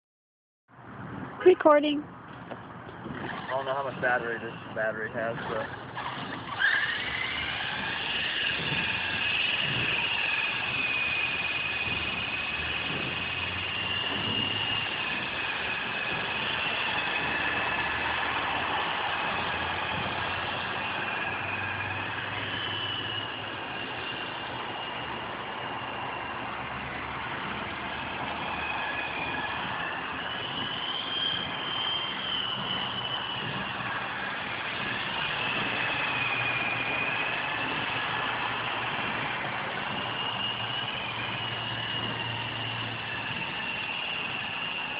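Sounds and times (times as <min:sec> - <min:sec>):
toy helicopter motor whining: 0:03.2 - 0:44.9.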